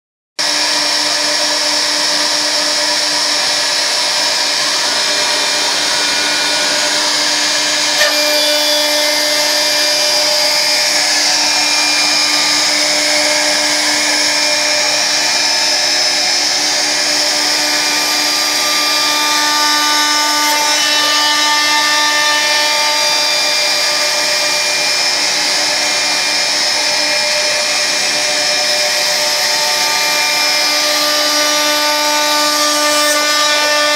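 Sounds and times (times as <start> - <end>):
router spindle whining: 0.4 - 33.9.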